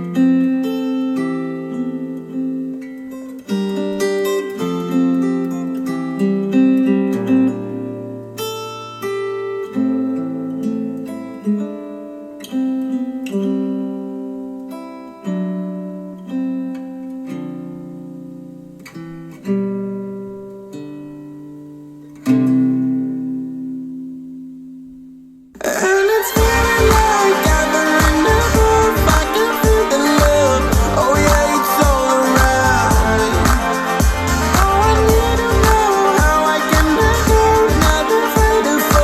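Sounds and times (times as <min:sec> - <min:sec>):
slow acoustic guitar chords: 0:00.0 - 0:39.0.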